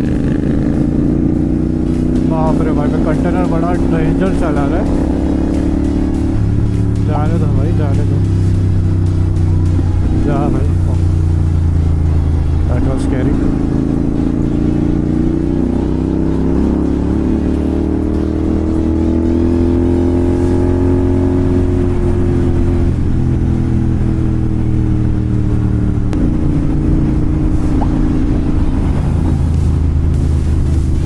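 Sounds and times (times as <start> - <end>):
motorcycle engine under load: 0.0 - 31.0.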